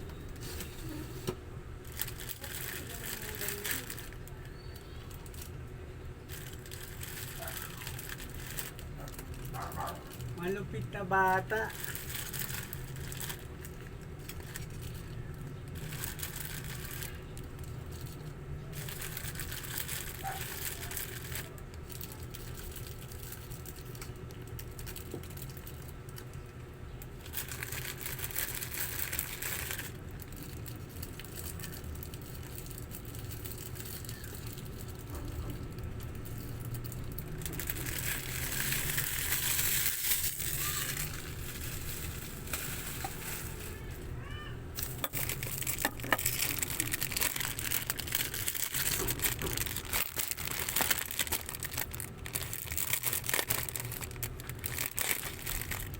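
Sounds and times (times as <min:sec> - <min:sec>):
plastic packaging crinkling: 0:01.8 - 0:55.9.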